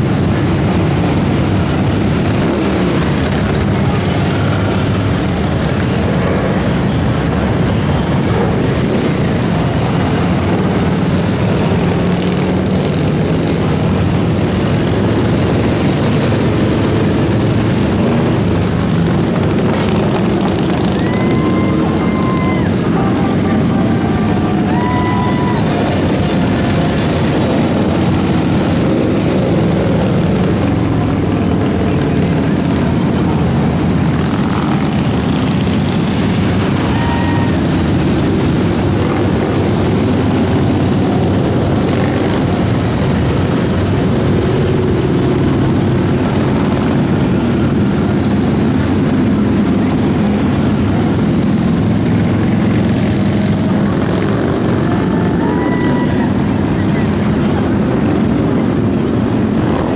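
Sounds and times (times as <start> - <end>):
motorcycle engines droning: 0.0 - 59.9.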